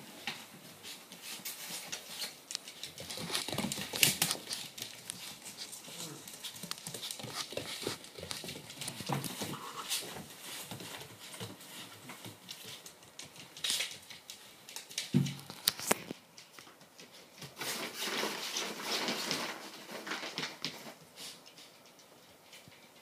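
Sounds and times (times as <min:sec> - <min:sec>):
puppy claws clicking on wood floor: 0:01.4 - 0:23.0.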